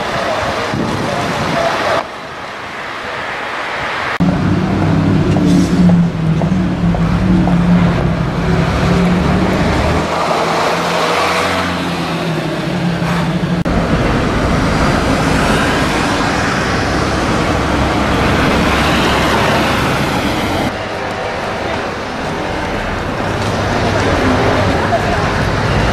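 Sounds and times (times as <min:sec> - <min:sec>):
bus driving past: 0:00.0 - 0:25.9
bus engine hum: 0:00.0 - 0:25.9.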